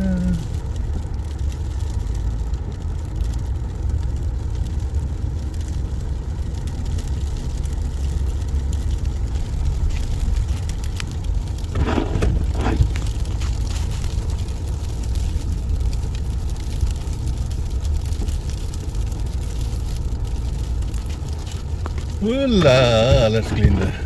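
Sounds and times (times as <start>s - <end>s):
car driving on snowy road: 0.0s - 24.0s.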